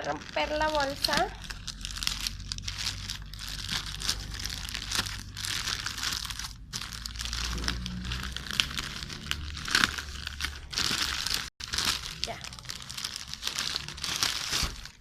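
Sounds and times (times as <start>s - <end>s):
packaging bag crinkling: 0.0s - 15.0s.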